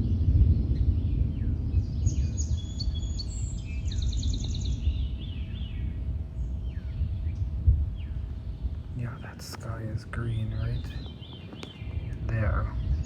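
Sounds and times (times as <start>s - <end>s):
low rumble: 0.0s - 13.0s
faint steady hum: 0.2s - 13.0s
birds chirping: 0.5s - 13.0s.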